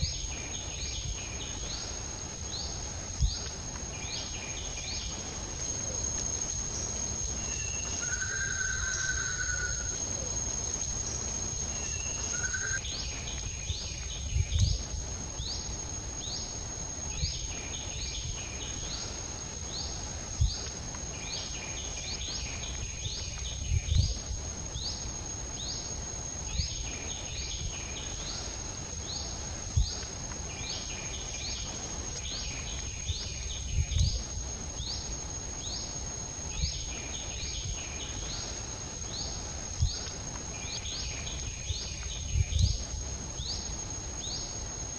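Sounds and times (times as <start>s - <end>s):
high-pitched insect drone: 0.0s - 44.9s.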